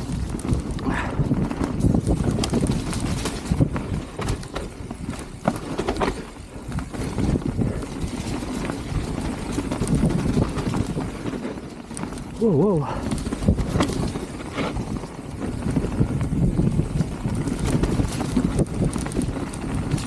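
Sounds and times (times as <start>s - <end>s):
bike rattling and knocking: 0.0s - 20.0s
tyres rumbling over dirt: 0.0s - 20.0s.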